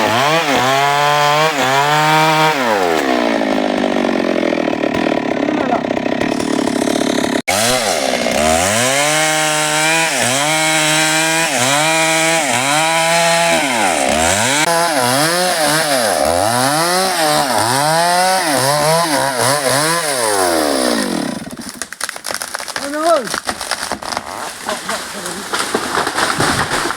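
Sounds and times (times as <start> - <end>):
chainsaw revving: 0.0 - 21.8.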